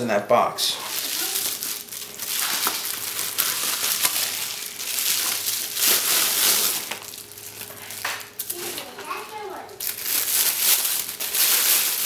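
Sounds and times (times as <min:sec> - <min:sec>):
bubble wrap crinkling: 0:00.8 - 0:12.0.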